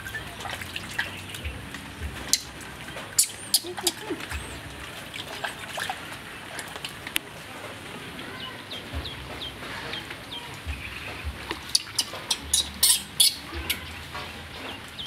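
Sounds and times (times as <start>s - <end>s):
water splashing in steel bowl: 0.0s - 15.0s.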